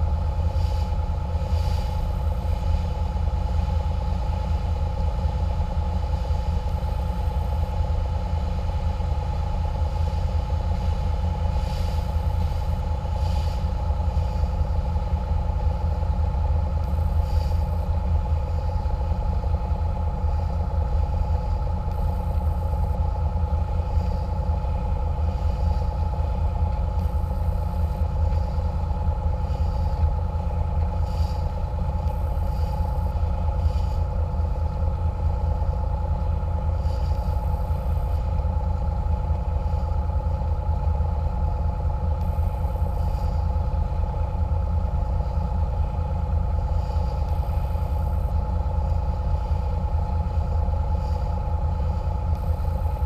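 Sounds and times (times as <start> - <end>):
boat engines droning: 0.0 - 53.0.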